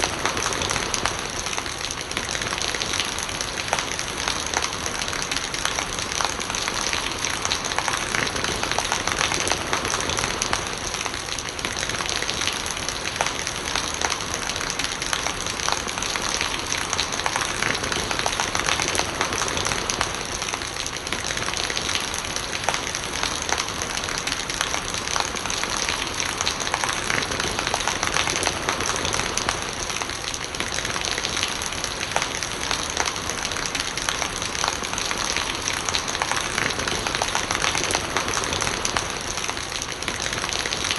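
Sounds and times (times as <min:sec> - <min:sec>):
rainwater running and gurgling: 0:00.0 - 0:40.9
steady rain patter: 0:00.0 - 0:40.9.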